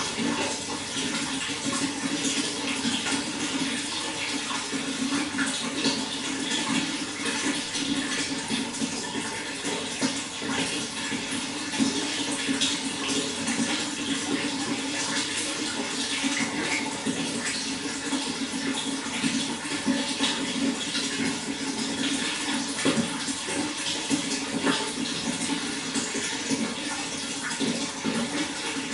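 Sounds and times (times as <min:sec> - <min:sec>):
running water: 0:00.0 - 0:28.9.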